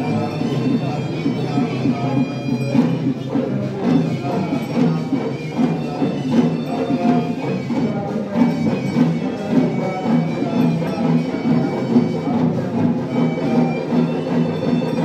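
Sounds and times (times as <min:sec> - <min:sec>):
reedy wind instrument melody: 0:00.0 - 0:15.0
regular drumbeat: 0:00.0 - 0:15.0.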